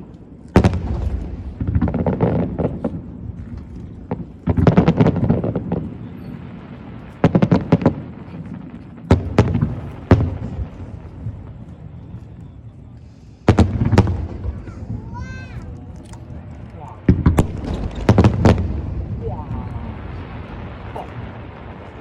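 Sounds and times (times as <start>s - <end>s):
fireworks bursting with bangs: 0.0s - 22.0s.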